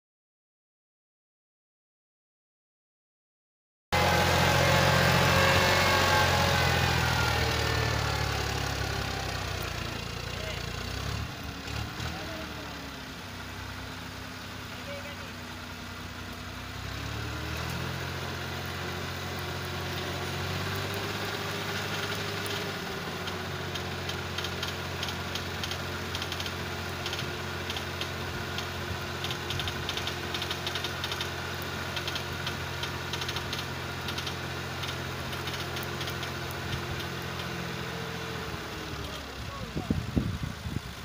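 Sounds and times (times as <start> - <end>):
tractor diesel engine revving: 4.0 - 41.0.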